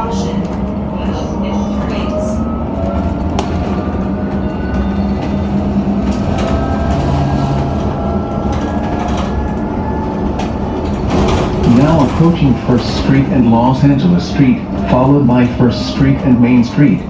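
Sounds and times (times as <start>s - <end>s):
bus drivetrain drone: 0.0s - 17.0s
road noise: 0.0s - 17.0s.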